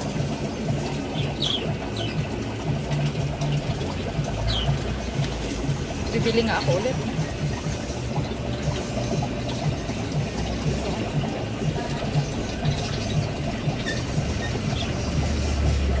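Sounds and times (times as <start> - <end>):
aquarium water bubbling: 0.0 - 16.0
pump running: 0.0 - 16.0.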